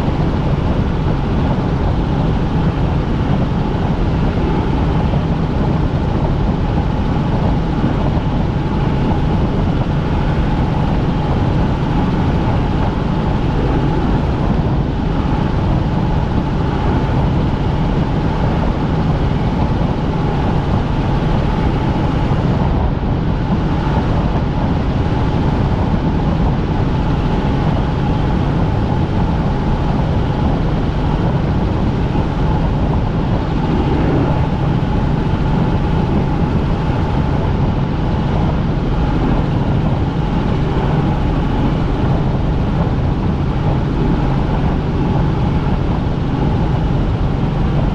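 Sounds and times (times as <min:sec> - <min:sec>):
helicopter turbine and rotors droning: 0:00.0 - 0:47.9.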